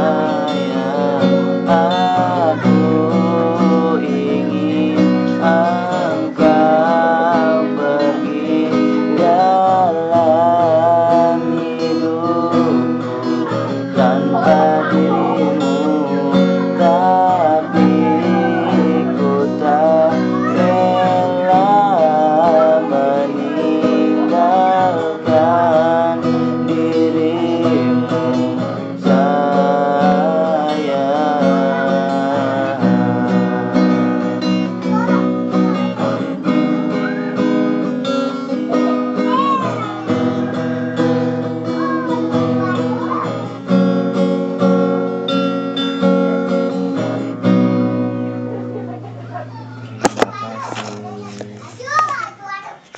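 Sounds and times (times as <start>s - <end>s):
man singing: 0.0s - 47.8s
acoustic guitar strumming: 0.0s - 52.9s.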